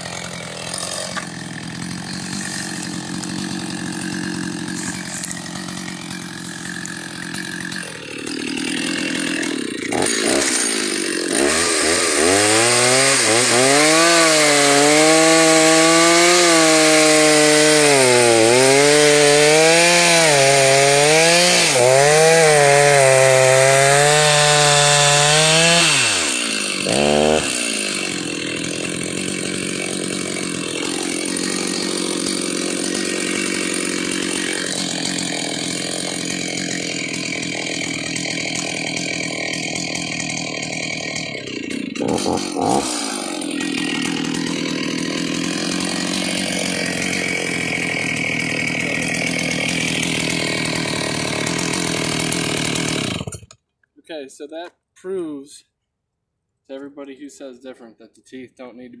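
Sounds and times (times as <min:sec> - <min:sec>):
chainsaw cutting a log: 0:00.0 - 0:53.6.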